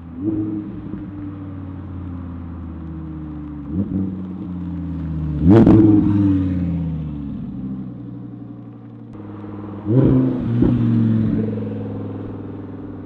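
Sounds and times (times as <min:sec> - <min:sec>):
sports car engine idling and revving: 0:00.0 - 0:13.0.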